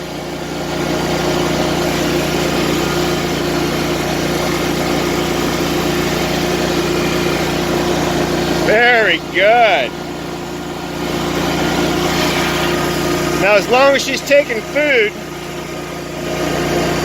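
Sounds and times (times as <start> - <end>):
riding lawn mower engine running: 0.0 - 17.0.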